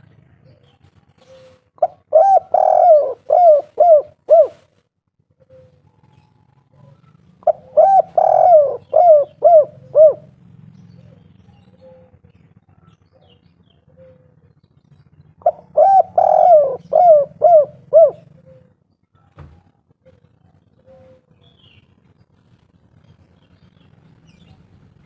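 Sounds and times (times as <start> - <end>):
dove cooing: 0.0 - 14.6, 15.4 - 18.9, 19.6 - 21.6.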